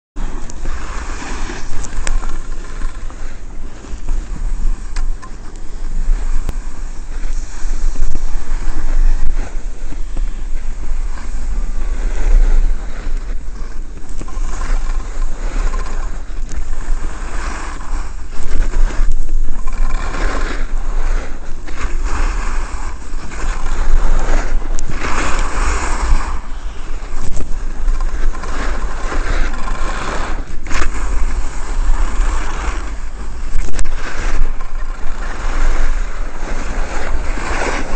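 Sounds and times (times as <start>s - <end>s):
skis scraping on snow: 0.2s - 37.9s
wind buffeting microphone: 0.2s - 37.9s.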